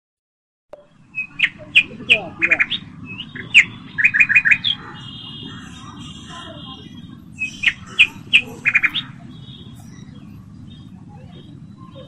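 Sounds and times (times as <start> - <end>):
peacock calling: 1.1 - 12.0.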